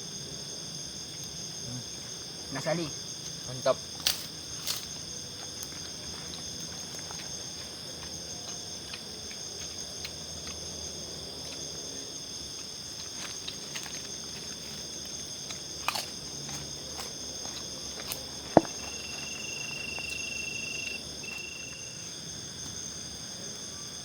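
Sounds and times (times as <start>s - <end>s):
night insects chorus: 0.0s - 24.0s.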